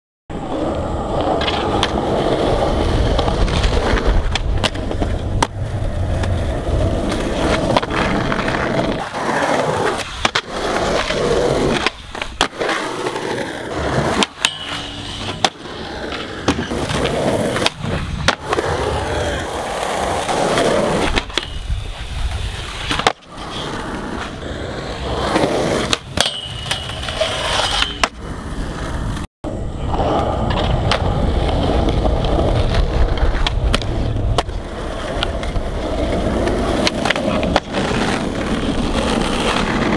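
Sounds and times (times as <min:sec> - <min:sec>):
skateboard wheels rolling on concrete: 0:00.3 - 0:39.9
skateboard grinding on metal rail: 0:00.4 - 0:39.9
skateboard tail pops and landings: 0:01.2 - 0:24.4, 0:25.0 - 0:28.2, 0:30.4 - 0:39.9.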